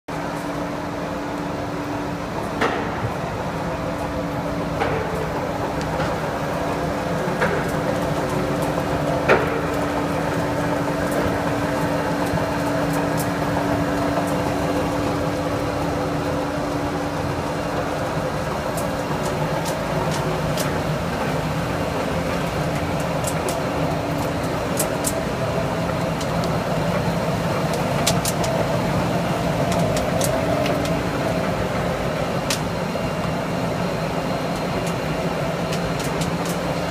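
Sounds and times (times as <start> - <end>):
steady hum: 0.1 - 36.9.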